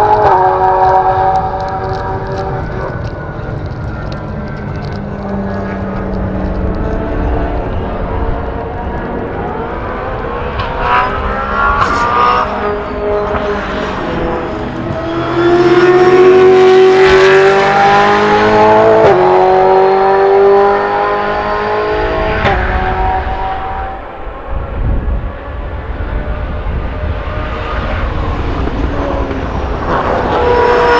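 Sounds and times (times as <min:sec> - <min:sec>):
race car engine at hard throttle: 0:00.0 - 0:30.9.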